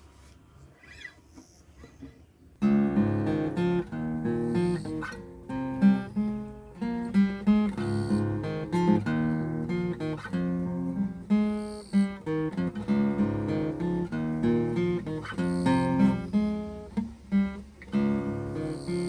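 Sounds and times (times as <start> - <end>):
acoustic guitar playing chords: 2.6 - 19.0.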